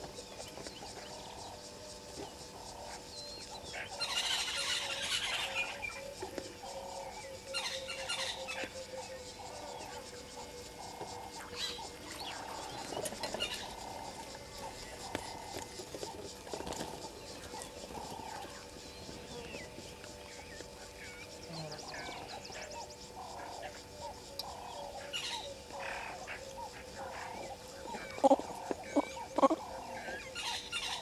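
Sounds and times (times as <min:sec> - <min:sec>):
monkeys calling: 0:02.5 - 0:31.0.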